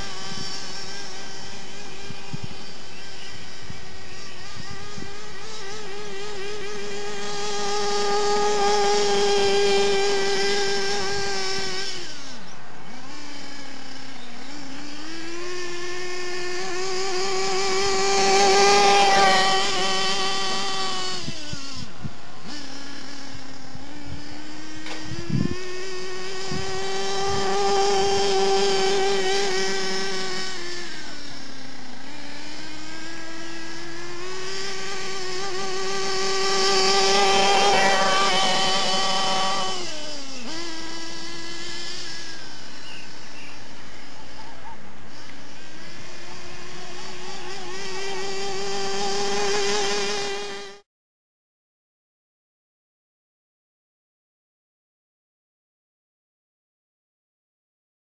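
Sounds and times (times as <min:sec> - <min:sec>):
model car engine buzzing: 0:00.0 - 0:50.8.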